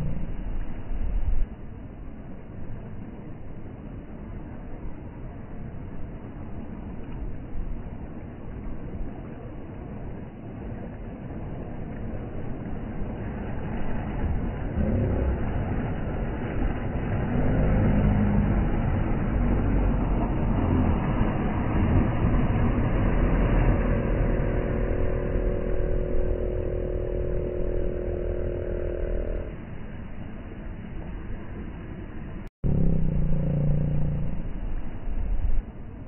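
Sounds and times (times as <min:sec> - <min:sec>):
small waves washing: 0:00.0 - 0:32.4
outboard motor rumbling: 0:00.0 - 0:36.0
steady engine tone: 0:00.0 - 0:36.0.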